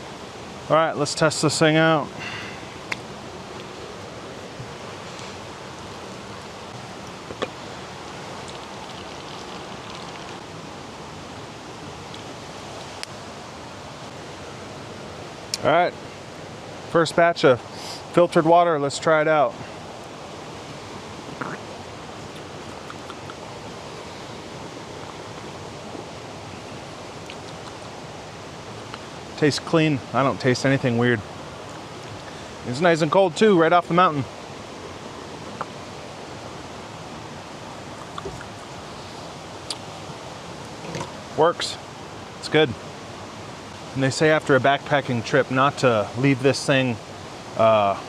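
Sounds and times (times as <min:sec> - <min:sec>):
creek rushing: 0:00.0 - 0:48.0.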